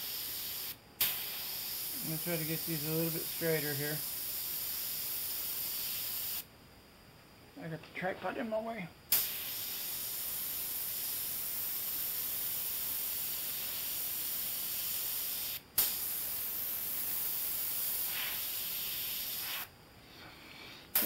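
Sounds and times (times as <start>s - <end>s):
airbrush spraying hiss: 0.0s - 6.5s, 9.1s - 19.7s.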